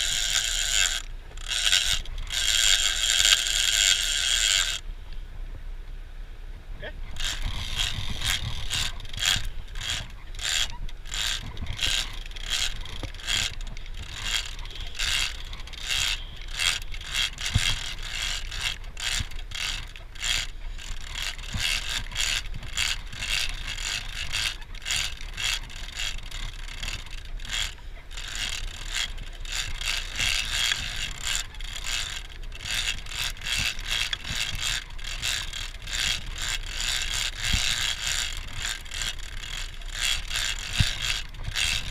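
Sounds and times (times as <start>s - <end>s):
fishing reel clicking: 0.0s - 4.8s, 7.1s - 41.9s.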